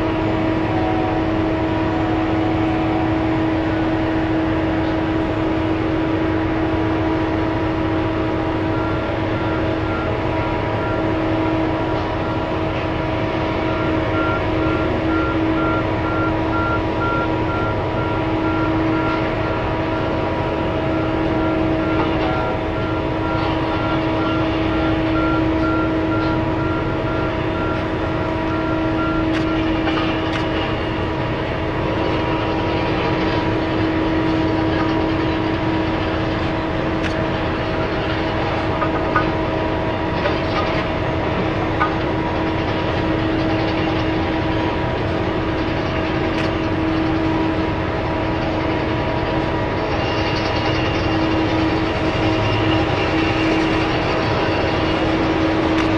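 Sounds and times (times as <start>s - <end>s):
dump truck engine whine and rumble: 0.0s - 55.9s.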